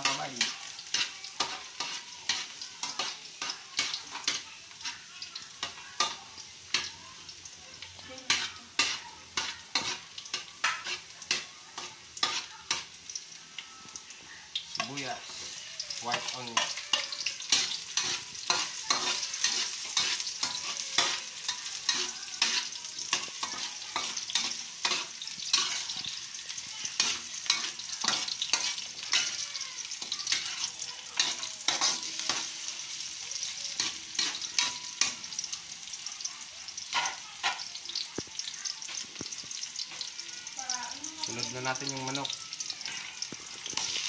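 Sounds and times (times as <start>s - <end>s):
spatula scraping metal wok: 0.0s - 6.8s, 8.2s - 13.0s, 14.7s - 36.0s, 41.5s - 44.0s
onion sizzling in hot oil: 0.0s - 44.0s.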